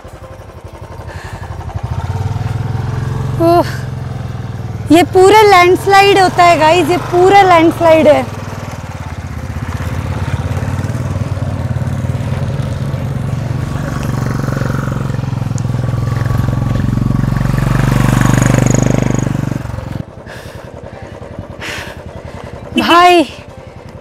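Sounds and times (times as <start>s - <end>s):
motorcycle engine pulling uphill: 0.0s - 24.0s.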